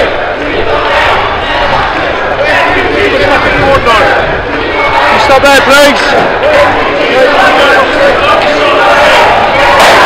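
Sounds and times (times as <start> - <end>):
crowd shouting together: 0.0 - 10.0.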